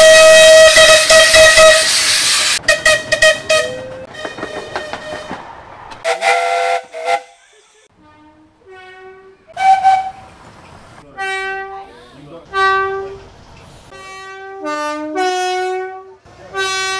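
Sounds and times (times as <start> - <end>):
train horns and whistles: 0.0 - 5.4, 6.0 - 10.3, 11.2 - 11.9, 12.5 - 13.2, 13.9 - 16.9.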